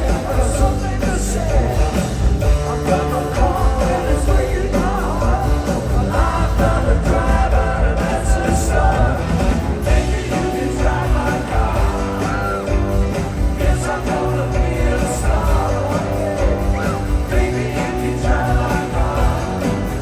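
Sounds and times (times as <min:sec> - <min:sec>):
live rock band playing: 0:00.0 - 0:20.0
person singing: 0:00.0 - 0:20.0.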